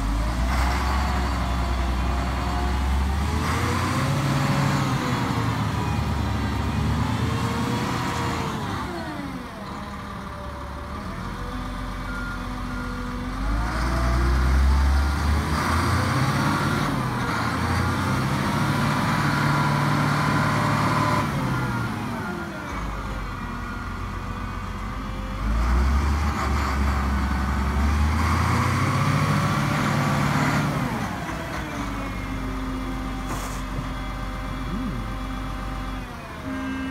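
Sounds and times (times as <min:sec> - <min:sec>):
diesel truck engine revving: 0:00.0 - 0:36.9.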